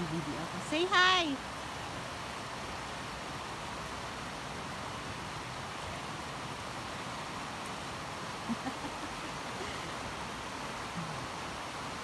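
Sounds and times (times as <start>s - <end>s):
river flowing over stones: 0.0s - 12.0s.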